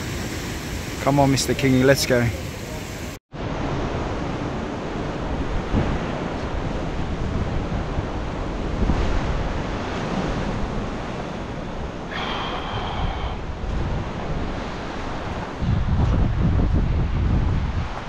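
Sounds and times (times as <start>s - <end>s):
surf washing against rocks: 0.0s - 18.0s
wind buffeting microphone: 3.4s - 18.0s.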